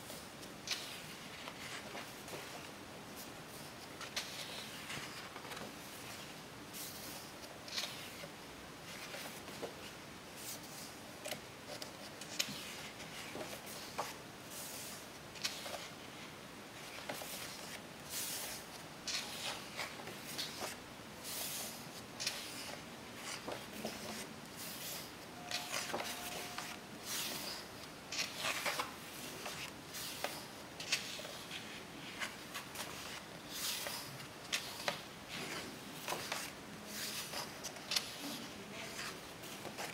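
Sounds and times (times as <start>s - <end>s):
book pages turning: 0.0s - 16.2s, 16.8s - 39.9s.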